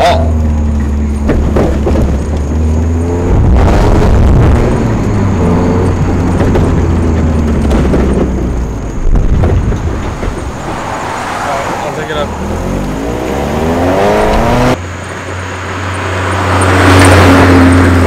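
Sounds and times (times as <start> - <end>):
car engine and exhaust drone: 0.0 - 18.0.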